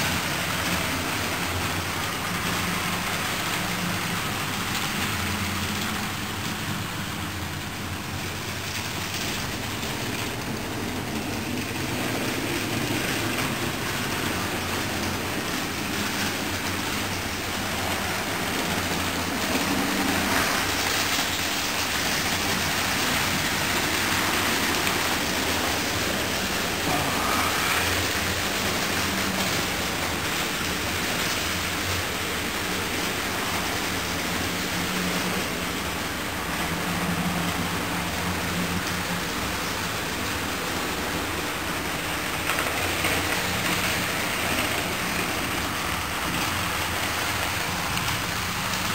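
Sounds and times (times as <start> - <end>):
model train rolling on track: 0.0 - 48.9.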